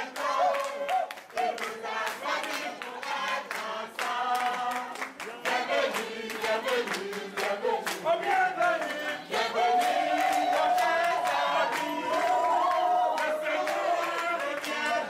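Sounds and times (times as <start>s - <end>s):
choir singing: 0.0s - 15.0s
hand clapping: 0.0s - 15.0s.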